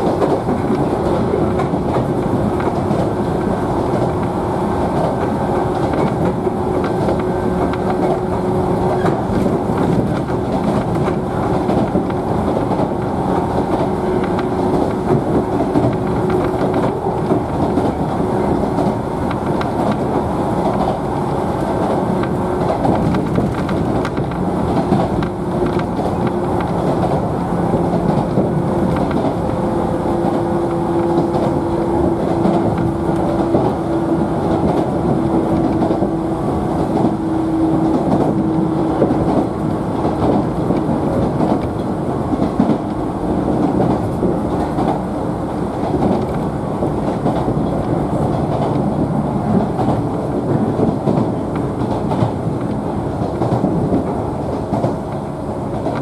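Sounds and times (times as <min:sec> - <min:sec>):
train hum: 0:00.0 - 0:56.0
train wheels rumbling on rails: 0:00.0 - 0:56.0.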